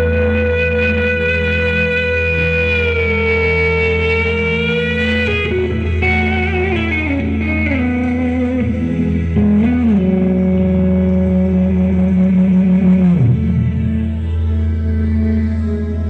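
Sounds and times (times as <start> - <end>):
sliding melodic lead: 0.0 - 16.0
steady low bass: 0.0 - 16.0.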